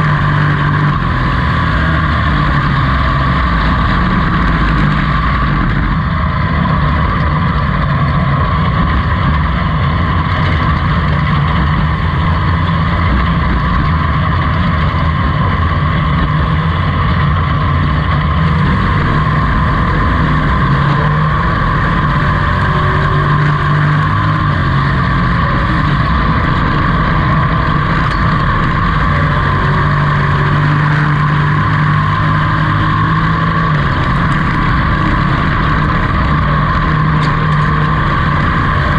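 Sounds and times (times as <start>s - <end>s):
race car engine droning: 0.0s - 38.9s.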